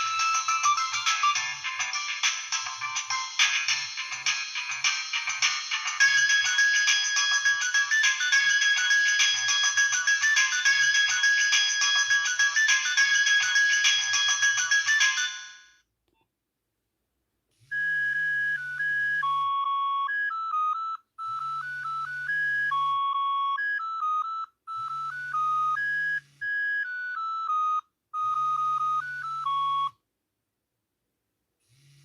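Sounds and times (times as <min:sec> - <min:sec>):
synthesized phone ringtone melody: 0:00.0 - 0:15.8, 0:17.7 - 0:30.0.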